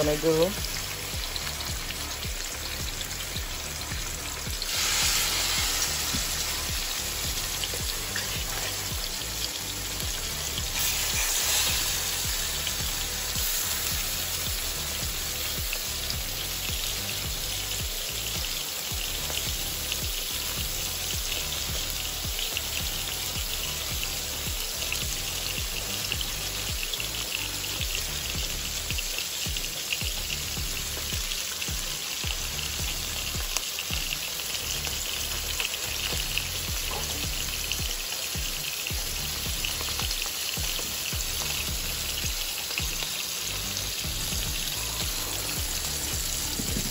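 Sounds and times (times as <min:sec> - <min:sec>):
fish sizzling in a pan: 0:00.0 - 0:46.9.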